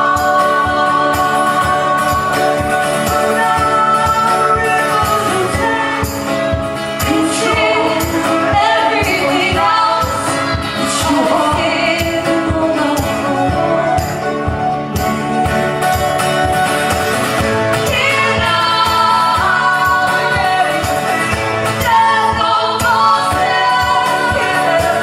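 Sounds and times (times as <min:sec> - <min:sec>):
person singing: 0:00.0 - 0:16.2, 0:17.5 - 0:25.0
strummed guitars: 0:00.0 - 0:25.0.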